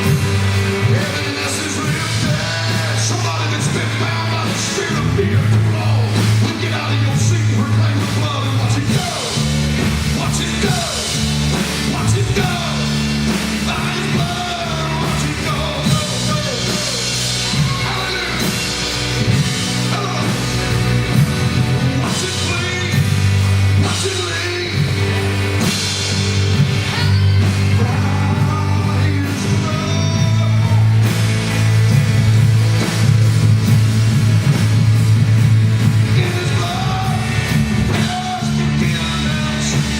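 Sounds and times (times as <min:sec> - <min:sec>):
person singing: 0:00.0 - 0:31.1, 0:36.0 - 0:39.9
live band drums and bass: 0:00.0 - 0:39.9.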